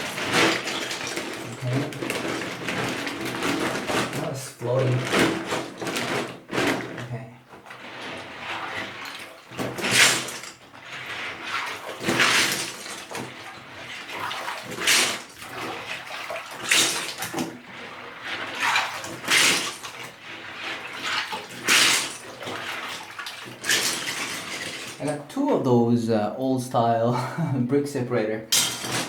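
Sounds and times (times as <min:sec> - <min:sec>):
water sloshing and splashing: 0:00.0 - 0:25.7, 0:28.5 - 0:29.0.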